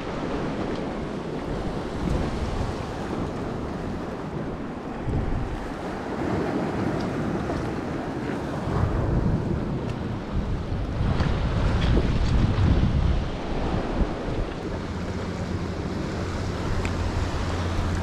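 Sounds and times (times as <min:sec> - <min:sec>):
waves washing against rocks: 0:00.0 - 0:18.0
wind blowing across microphone: 0:00.0 - 0:18.0.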